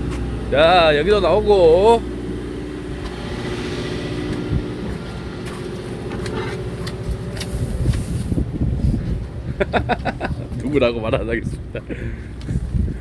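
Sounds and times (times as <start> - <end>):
boat engine humming: 0.0 - 13.0
wind rumble on microphone: 0.0 - 13.0.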